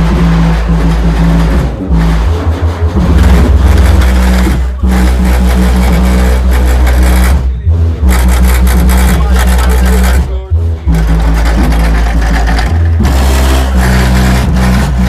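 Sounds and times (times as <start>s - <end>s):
loud bass music from subwoofers: 0.0s - 15.0s.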